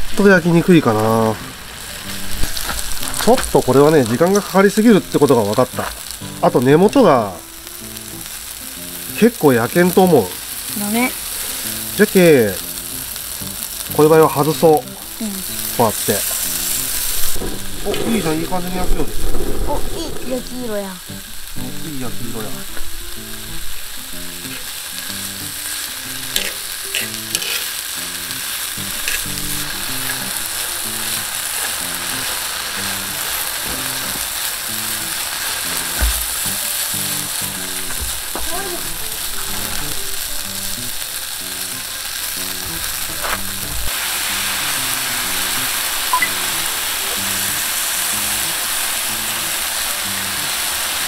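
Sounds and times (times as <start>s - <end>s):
food sizzling on a griddle: 0.0s - 51.0s.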